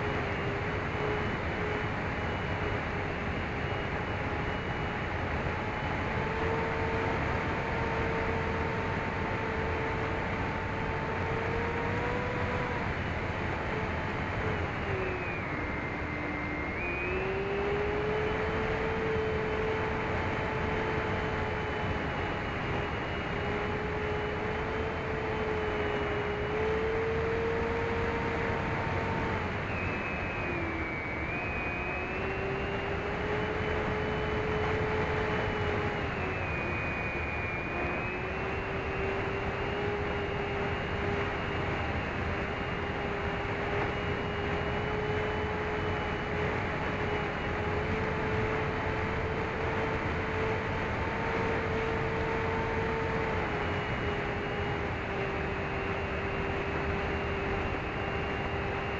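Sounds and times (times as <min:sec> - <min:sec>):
electric motor and propeller whine: 0:00.0 - 0:58.9.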